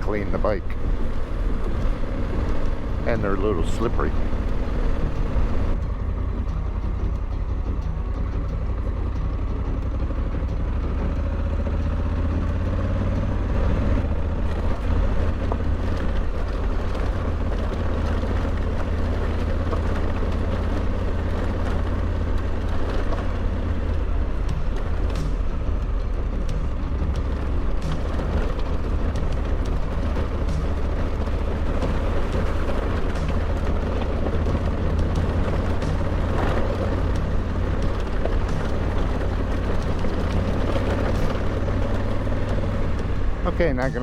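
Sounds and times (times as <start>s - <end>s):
motorcycle engine running: 0.0s - 44.0s
road noise on dirt track: 0.0s - 44.0s.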